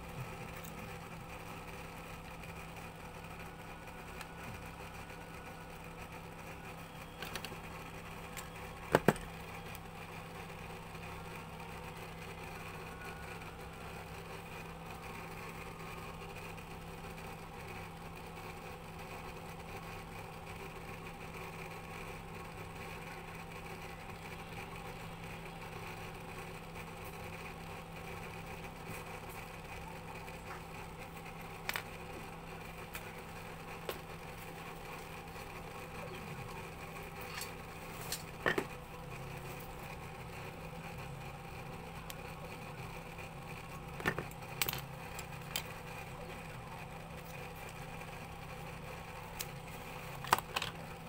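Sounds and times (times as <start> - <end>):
steady mechanical hum: 0.0 - 51.0.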